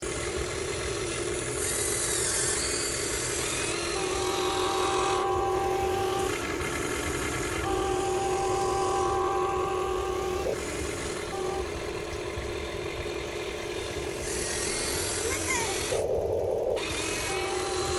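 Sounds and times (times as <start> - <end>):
steady motor whine: 0.0 - 17.9
toy excavator motors whirring: 0.0 - 17.9.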